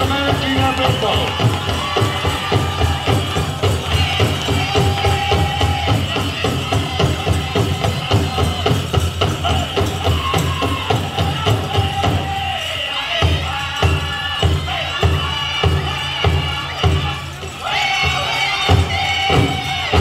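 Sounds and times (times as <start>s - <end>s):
big drum beat: 0.0s - 20.0s
group singing in high voices: 0.0s - 20.0s.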